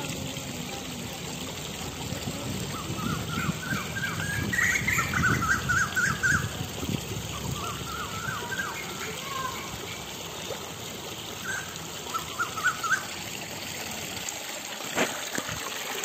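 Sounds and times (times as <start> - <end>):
stream trickling over rocks: 0.0 - 16.0.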